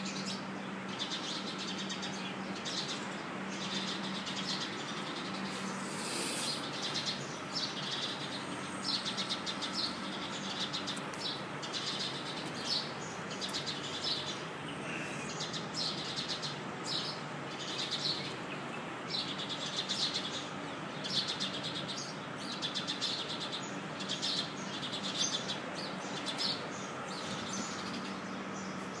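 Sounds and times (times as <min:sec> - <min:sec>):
small birds chirping: 0:00.0 - 0:29.0
steady background noise: 0:00.0 - 0:29.0.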